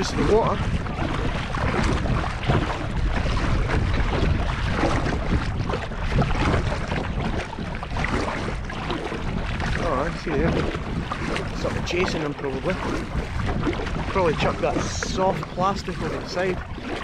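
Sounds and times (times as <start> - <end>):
kayak paddle splashing: 0.0 - 17.0
wind buffeting microphone: 0.0 - 17.0.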